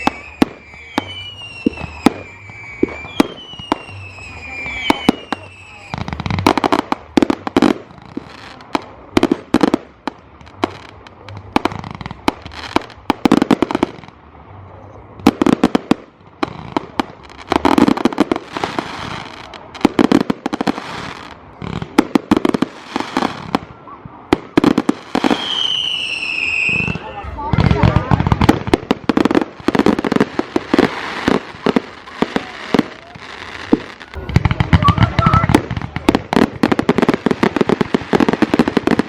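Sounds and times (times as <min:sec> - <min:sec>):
deep firework booms: 0:00.0 - 0:14.6, 0:15.2 - 0:39.0
fireworks banging and crackling: 0:00.0 - 0:39.0.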